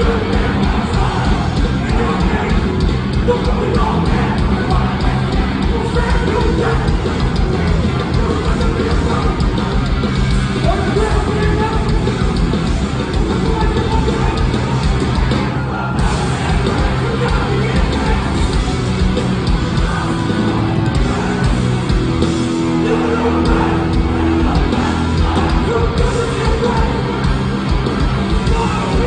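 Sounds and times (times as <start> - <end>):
punk band playing loud: 0.0 - 29.0.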